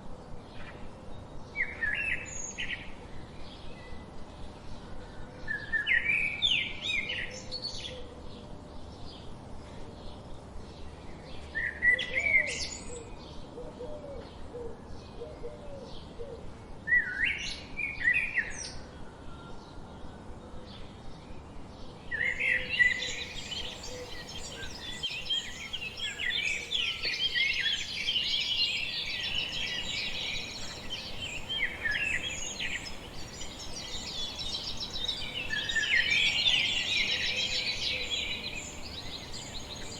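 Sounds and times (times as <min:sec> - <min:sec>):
songbirds singing: 0:00.2 - 0:39.9.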